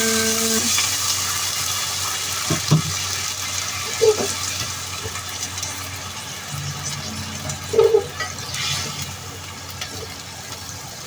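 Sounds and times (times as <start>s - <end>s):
water hissing in hot pan: 0.0s - 11.0s.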